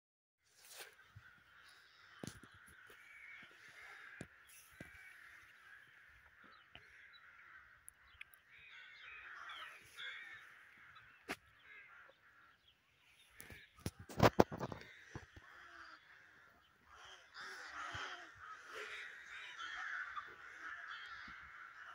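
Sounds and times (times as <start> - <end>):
crows cawing faintly: 0.6 - 21.9.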